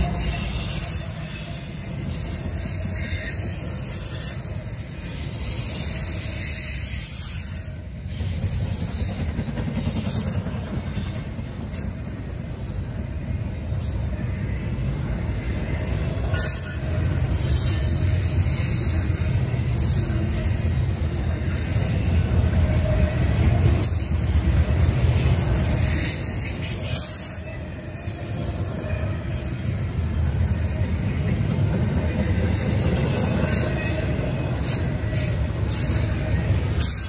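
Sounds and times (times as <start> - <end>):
steel train wheels rumbling on rail: 0.0 - 37.0.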